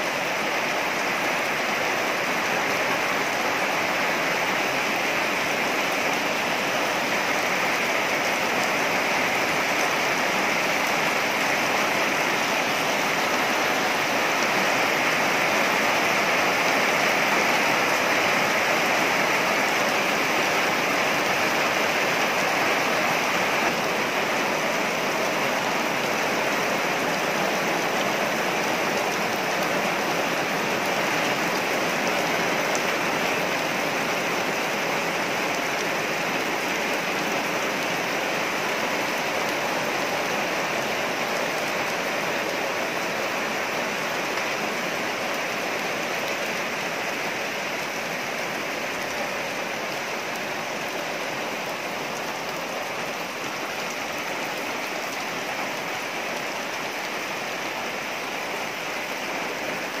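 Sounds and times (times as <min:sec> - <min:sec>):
rain falling on trees: 0:00.0 - 1:00.0.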